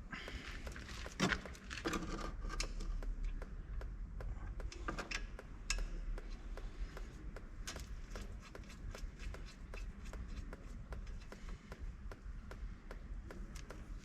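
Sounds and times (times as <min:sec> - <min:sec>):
hand tools clicking and knocking: 0:00.1 - 0:14.0.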